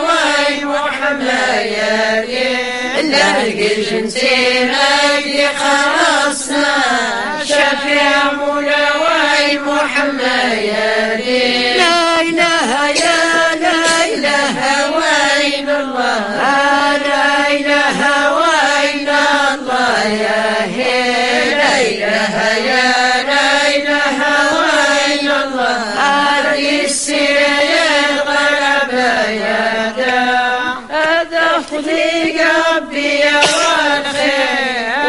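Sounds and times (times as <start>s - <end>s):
women chanting together: 0.0s - 35.0s.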